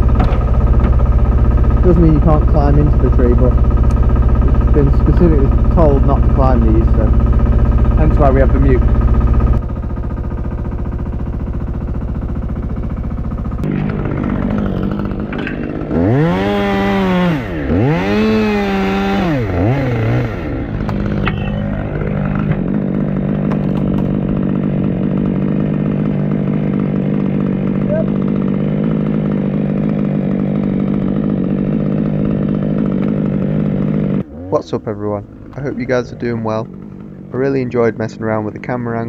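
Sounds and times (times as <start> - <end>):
chainsaw idling and revving: 0.0 - 39.0.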